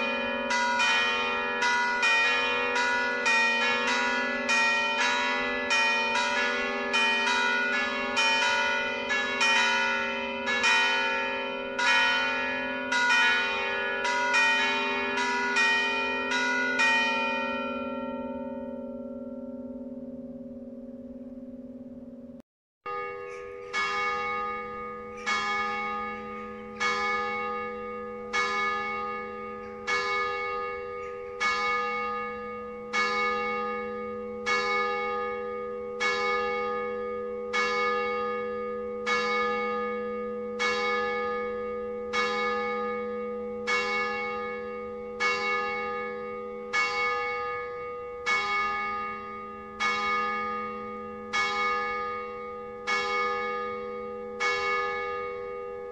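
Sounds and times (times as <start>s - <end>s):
church bell tolling: 0.0s - 55.9s.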